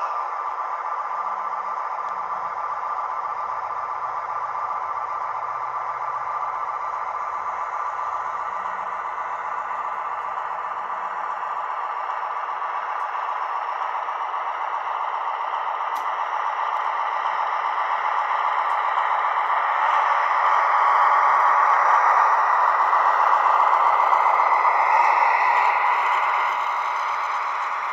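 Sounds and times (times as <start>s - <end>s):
model train wheels rattling on rails: 0.0s - 27.9s.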